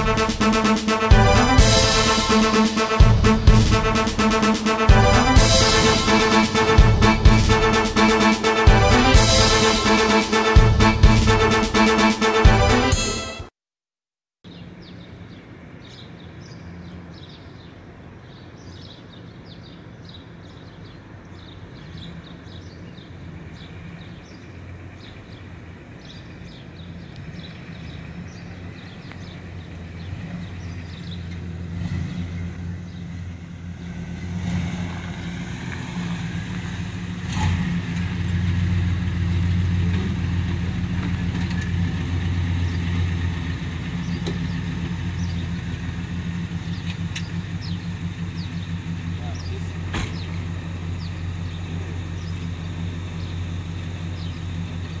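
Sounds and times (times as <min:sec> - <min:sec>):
car engine low rumble: 0:00.0 - 0:11.8, 0:14.5 - 0:55.0
birds chirping: 0:00.0 - 0:13.2, 0:14.5 - 0:37.2, 0:38.0 - 0:55.0.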